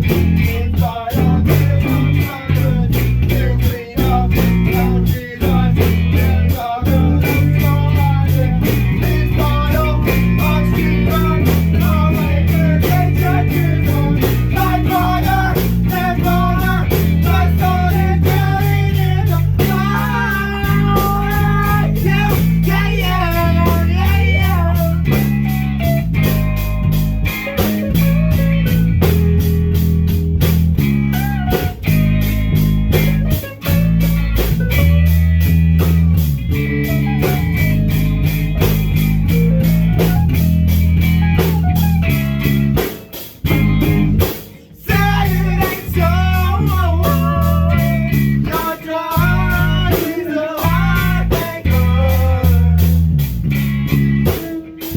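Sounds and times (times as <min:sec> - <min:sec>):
pitch-bending guitar melody: 0:00.0 - 0:54.9
rock band playing: 0:00.0 - 0:54.9.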